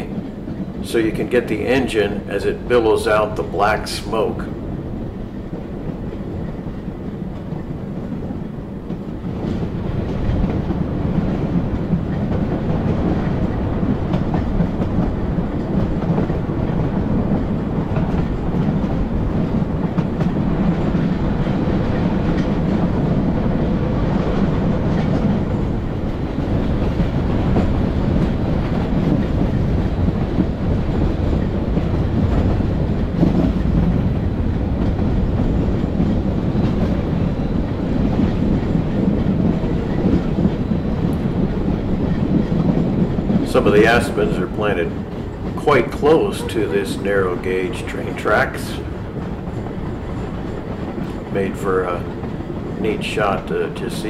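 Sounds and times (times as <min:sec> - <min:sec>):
train wheels rolling on track: 0:00.0 - 0:54.0.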